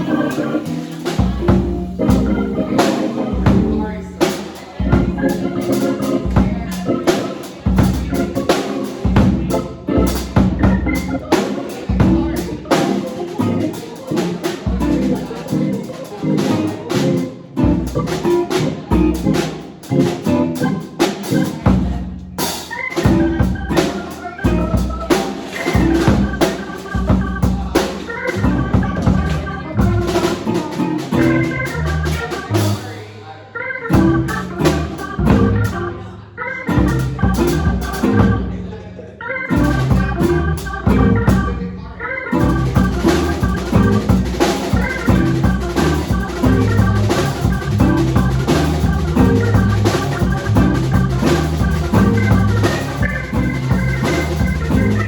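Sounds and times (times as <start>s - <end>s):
band playing instrumental: 0.0s - 38.7s, 39.4s - 55.0s.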